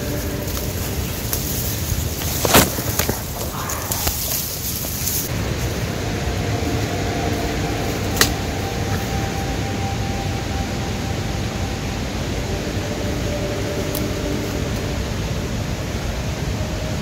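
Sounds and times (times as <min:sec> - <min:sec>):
faint steady hum: 0:00.0 - 0:17.0
rushing noise with low rumble: 0:00.0 - 0:17.0.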